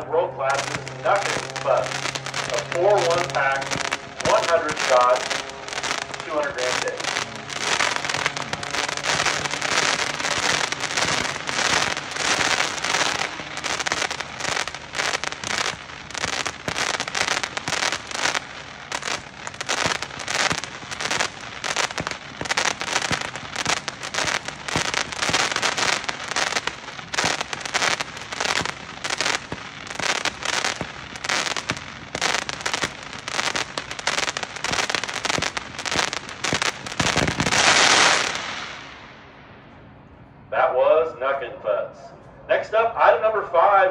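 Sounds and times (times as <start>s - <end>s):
firework cake pops and crackle: 0.5s - 38.8s.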